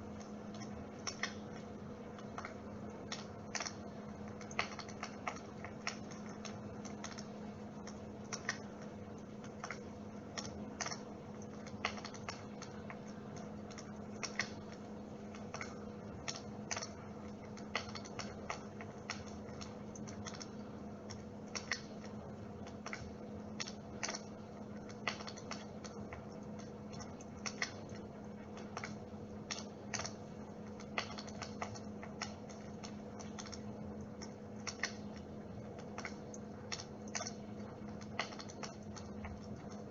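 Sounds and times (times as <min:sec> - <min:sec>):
electric fireplace humming: 0:00.0 - 0:39.9
sharp crackling clicks: 0:00.0 - 0:39.9.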